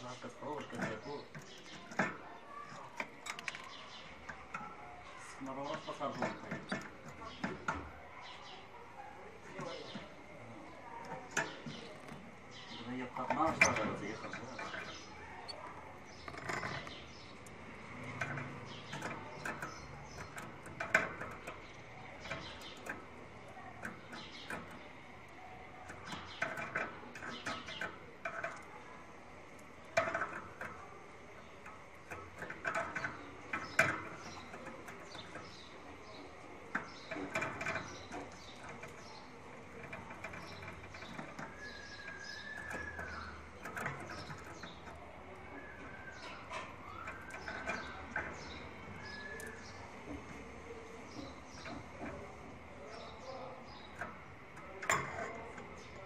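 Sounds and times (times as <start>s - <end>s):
caged birds chirping: 0.0s - 56.0s
clicks and rustles: 0.0s - 56.0s.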